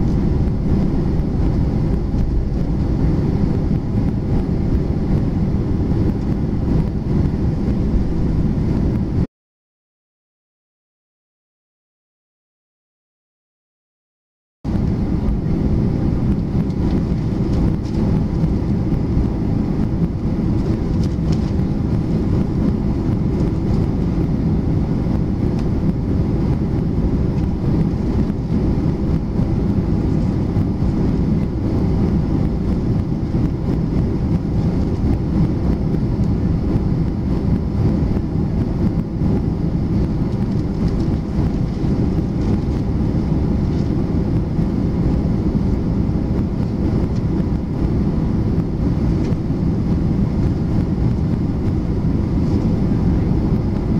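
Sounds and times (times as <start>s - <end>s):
jet engine rumble in cabin: 0.0s - 9.3s, 14.7s - 53.9s.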